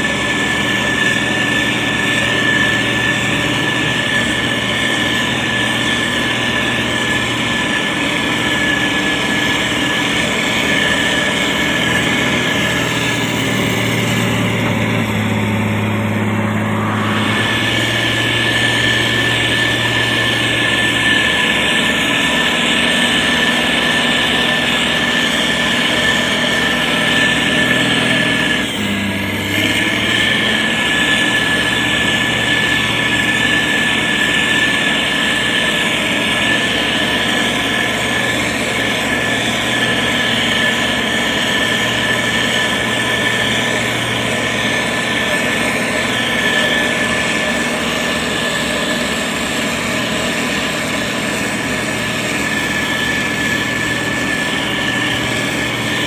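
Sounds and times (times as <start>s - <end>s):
grader diesel engine running: 0.0s - 56.0s
high whine: 0.0s - 56.0s.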